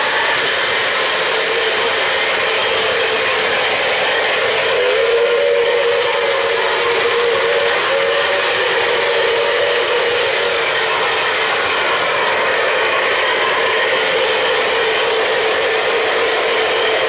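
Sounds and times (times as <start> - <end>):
model train wheels and motors rumbling: 0.0 - 17.0.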